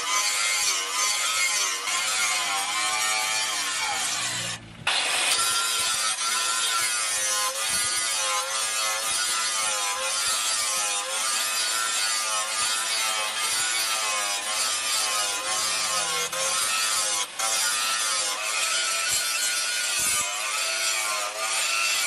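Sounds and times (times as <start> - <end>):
angle grinder grinding steel: 0.0 - 22.0.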